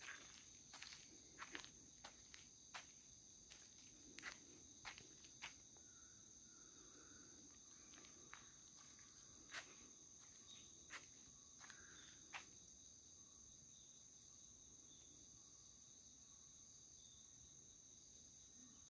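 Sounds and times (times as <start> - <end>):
insects singing: 0.0 - 18.9.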